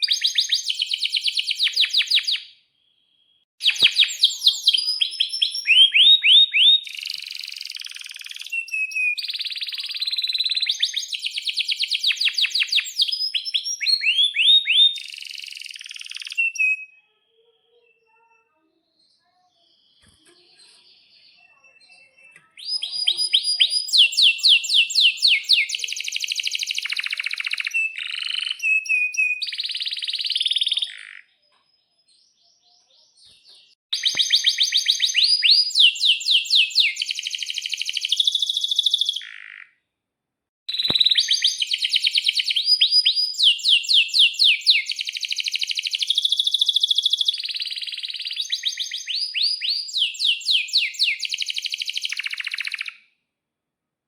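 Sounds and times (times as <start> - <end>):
canary singing: 0.0 - 2.6, 3.2 - 31.4, 32.2 - 39.8, 40.7 - 53.0.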